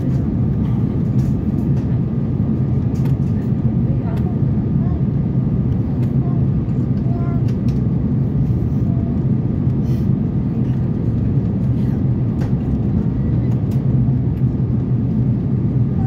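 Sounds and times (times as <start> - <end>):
airplane cabin roar: 0.0 - 16.0.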